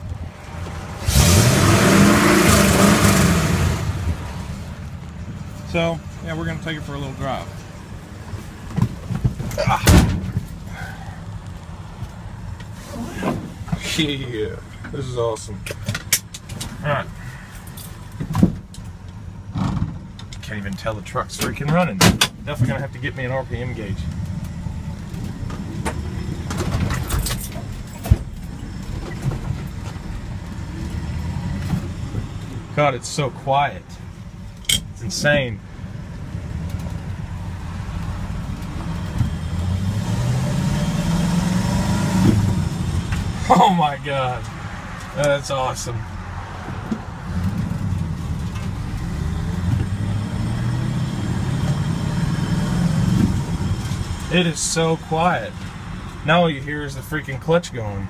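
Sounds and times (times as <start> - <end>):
truck engine rumble: 0.0 - 58.0.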